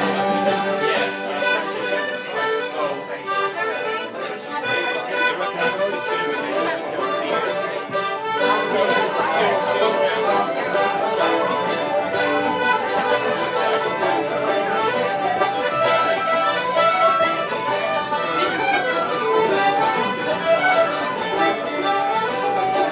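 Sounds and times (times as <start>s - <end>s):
accordion: 0.0s - 22.9s
folk session music: 0.0s - 22.9s.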